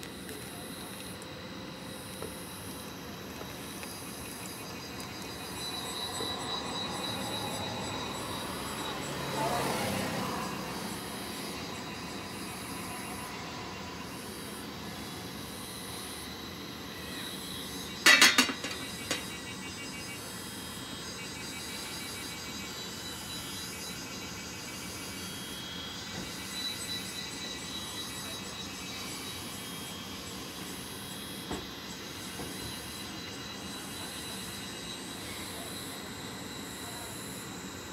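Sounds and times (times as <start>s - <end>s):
steady hissing noise: 0.0s - 37.9s.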